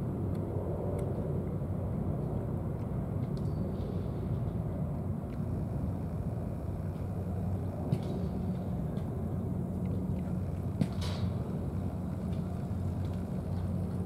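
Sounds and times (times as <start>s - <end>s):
low rumble with constant hum: 0.0s - 14.0s.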